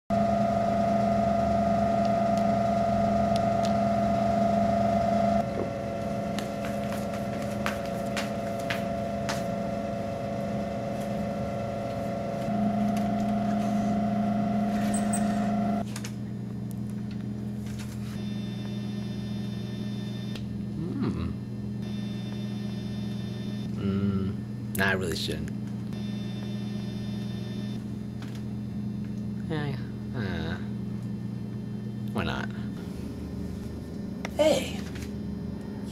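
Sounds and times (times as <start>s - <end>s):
vending machine humming: 0.1s - 35.9s.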